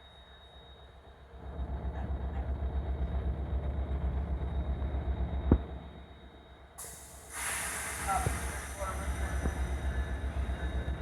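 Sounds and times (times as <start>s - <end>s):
train rumble: 1.2s - 11.0s.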